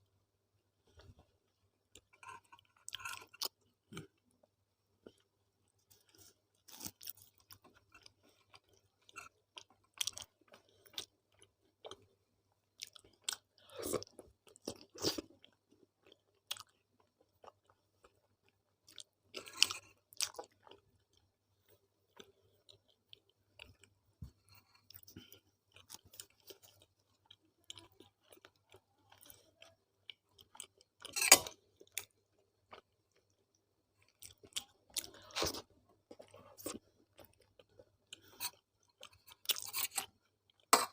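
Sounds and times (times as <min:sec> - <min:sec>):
person chewing food: 0:00.8 - 0:40.9.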